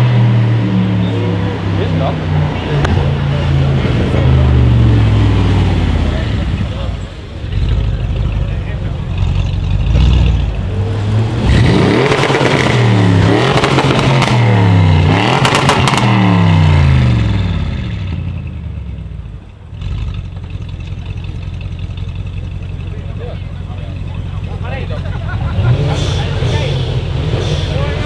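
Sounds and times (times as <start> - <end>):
car engine revving with crackles: 0.0 - 28.0
car engine idling: 0.4 - 28.0.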